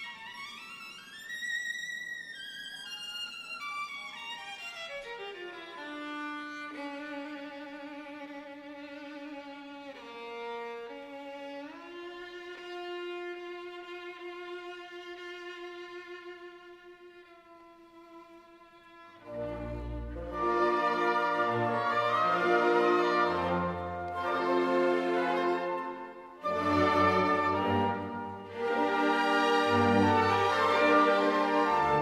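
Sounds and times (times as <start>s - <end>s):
bowed string instrument melody: 2.4s - 32.0s.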